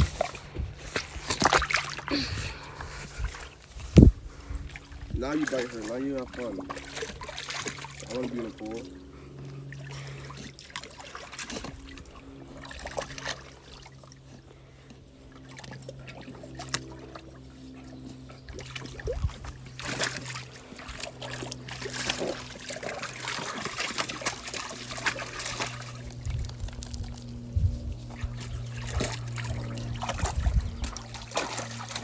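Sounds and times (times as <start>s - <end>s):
dog splashing in water: 0.0s - 3.6s, 4.7s - 14.2s, 15.3s - 32.0s
steady low hum: 0.0s - 32.0s.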